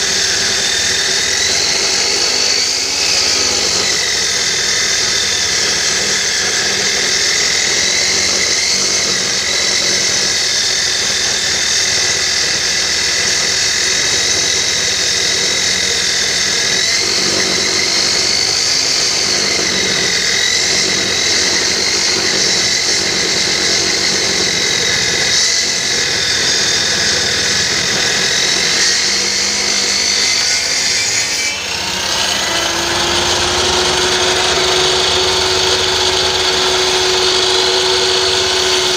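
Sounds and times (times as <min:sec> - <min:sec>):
circular saw motor whine: 0:00.0 - 0:38.9.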